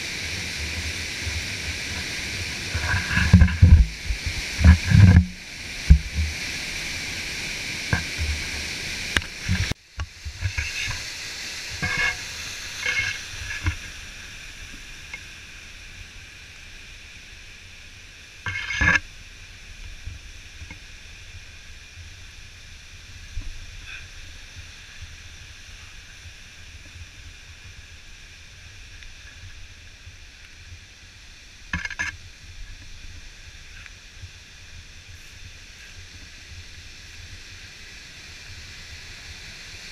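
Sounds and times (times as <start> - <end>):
distant waterfall rushing: 0.0 - 39.9
waterfall rapids roaring: 0.0 - 39.9.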